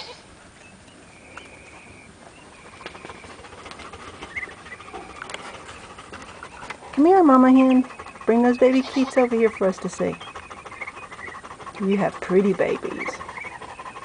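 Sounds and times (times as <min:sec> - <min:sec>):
ducklings peeping: 0:00.7 - 0:14.0.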